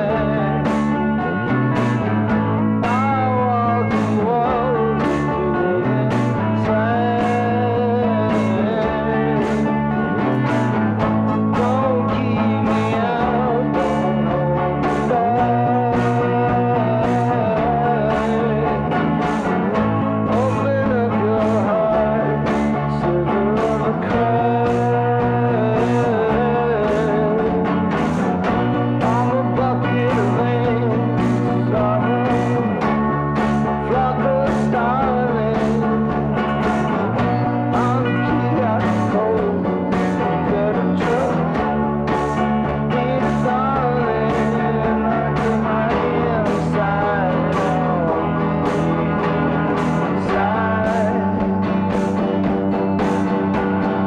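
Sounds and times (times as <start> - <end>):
rock song: 0.0 - 54.0.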